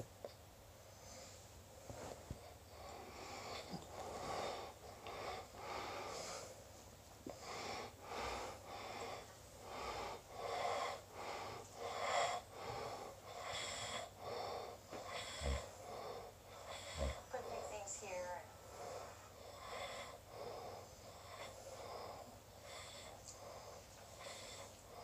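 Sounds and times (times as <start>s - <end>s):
person breathing with a wheeze: 0.9s - 6.6s, 7.3s - 17.9s, 18.5s - 25.0s.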